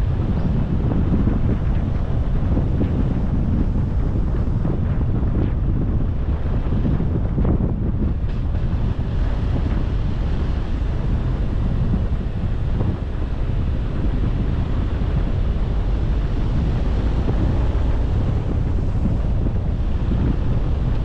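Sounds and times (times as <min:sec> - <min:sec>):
moving car noise: 0:00.0 - 0:21.0
wind rumble on microphone: 0:00.0 - 0:21.0.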